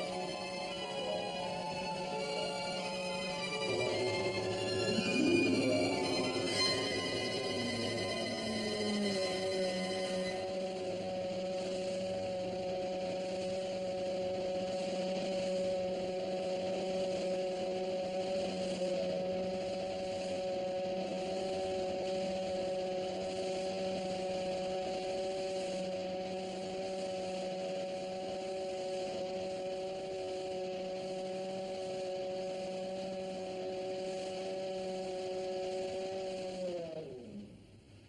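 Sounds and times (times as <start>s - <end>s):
crane hoist motor humming: 0.0s - 37.8s.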